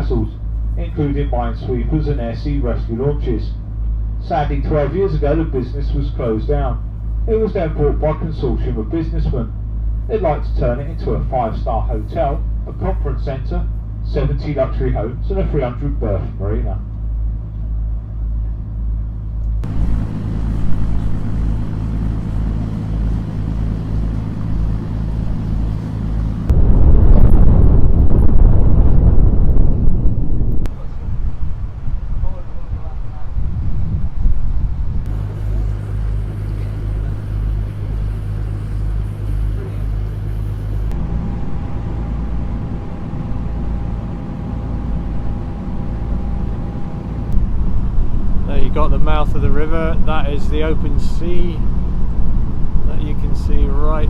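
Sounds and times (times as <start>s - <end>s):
boat engine drone: 0.0s - 54.0s
wind and water noise: 0.0s - 54.0s.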